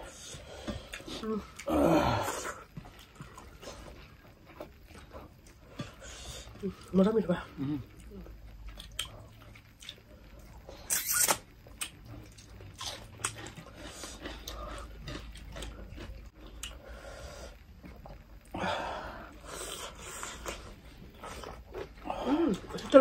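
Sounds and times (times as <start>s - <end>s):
people chewing with lip smacks: 0.0s - 18.6s, 19.2s - 23.0s.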